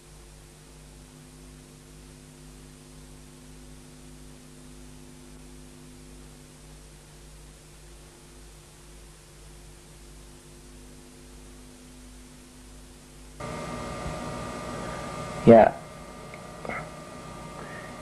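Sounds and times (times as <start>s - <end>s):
background hiss: 0.0s - 18.0s
electrical mains hum: 0.0s - 18.0s.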